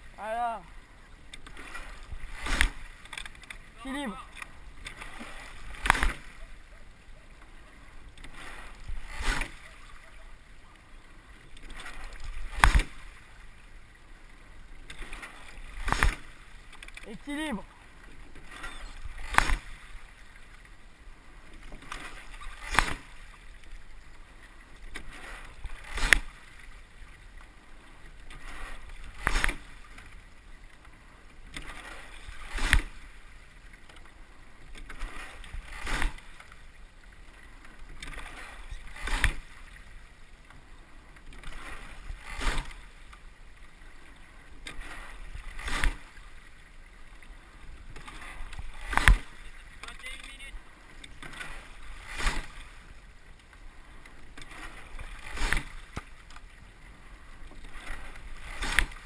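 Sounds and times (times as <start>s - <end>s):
water rushing along hull: 0.0s - 59.0s.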